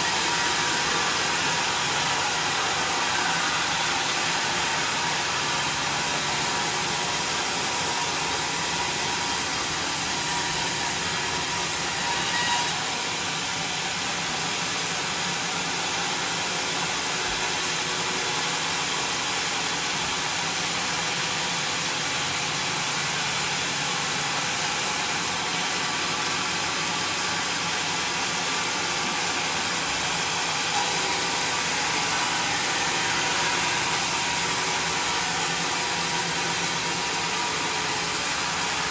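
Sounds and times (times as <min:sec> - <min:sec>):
sawmill machine running: 0:00.0 - 0:38.9.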